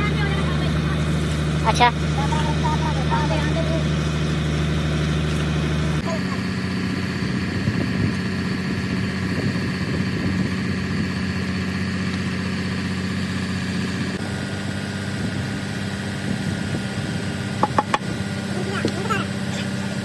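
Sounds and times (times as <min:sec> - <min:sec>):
engine idling drone: 0:00.0 - 0:20.0.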